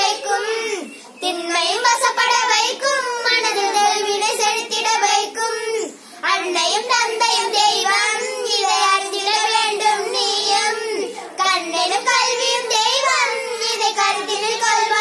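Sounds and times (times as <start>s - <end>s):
girls singing together: 0.0s - 15.0s.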